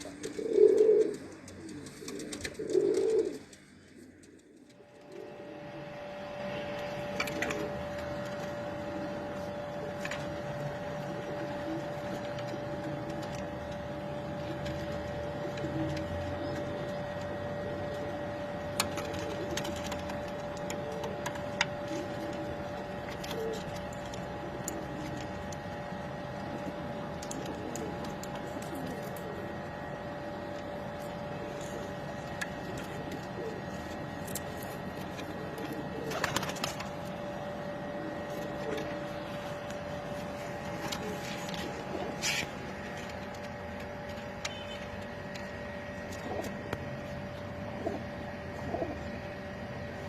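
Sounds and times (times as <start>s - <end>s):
machine hum: 0.0s - 50.0s
pigeons cooing: 0.0s - 50.0s.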